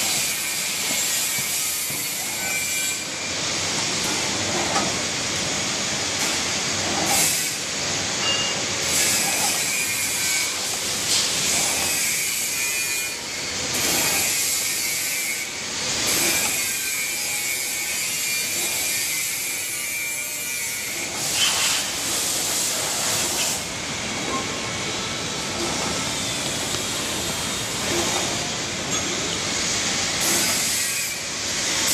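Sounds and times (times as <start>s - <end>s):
machine clattering and hissing: 0.0s - 31.9s.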